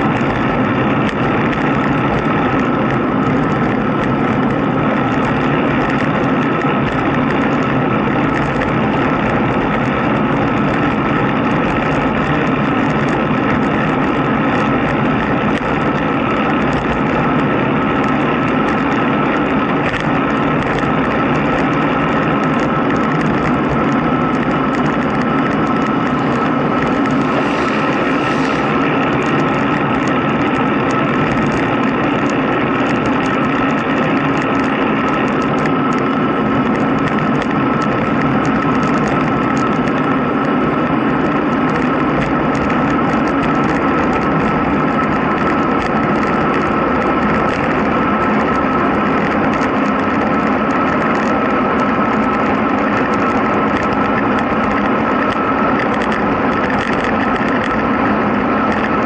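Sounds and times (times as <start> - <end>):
fine crackle: 0.0 - 59.0
road noise: 0.0 - 59.0
wind rush: 0.0 - 59.0.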